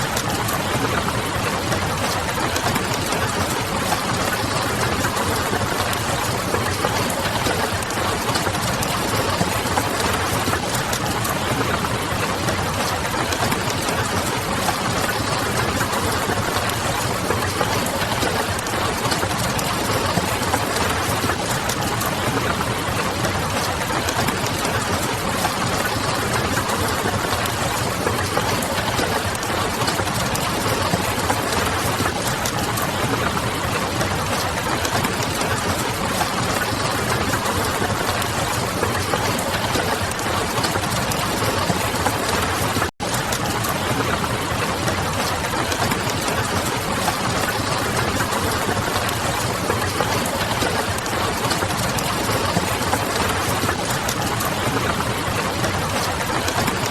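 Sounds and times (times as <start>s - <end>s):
rain pattering: 0.0s - 56.9s.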